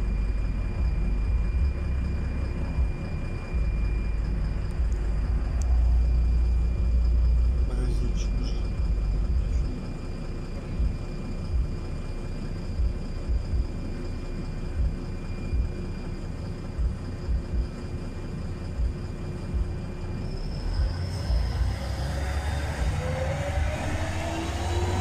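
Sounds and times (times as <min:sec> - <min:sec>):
bus engine and road rumble: 0:00.0 - 0:25.0
faint steady whine: 0:00.0 - 0:25.0.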